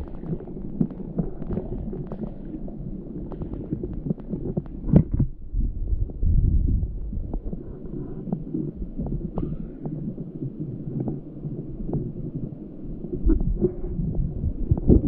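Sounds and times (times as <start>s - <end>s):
underwater stream rumble: 0.0s - 15.0s.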